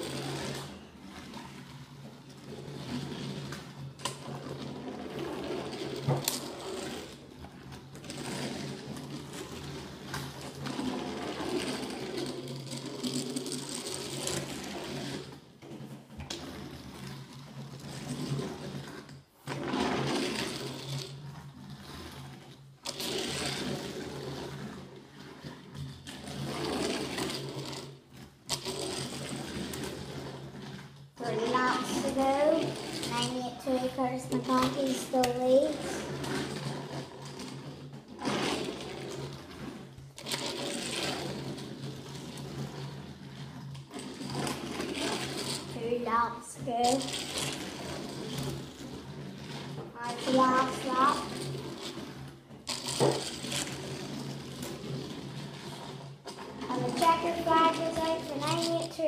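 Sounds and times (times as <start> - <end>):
toy cars buzzing whir: 0.0 - 59.0.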